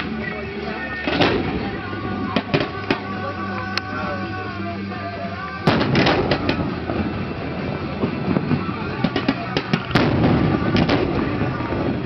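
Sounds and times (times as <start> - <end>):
fireworks crackling and popping: 0.0 - 12.0
fireworks banging: 0.9 - 4.2, 5.5 - 12.0.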